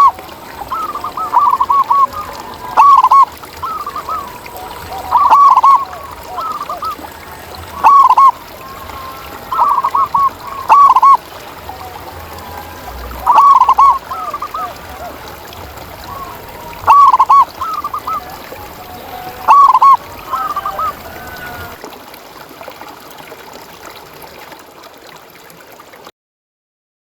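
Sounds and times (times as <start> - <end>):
doves cooing: 0.0 - 21.8.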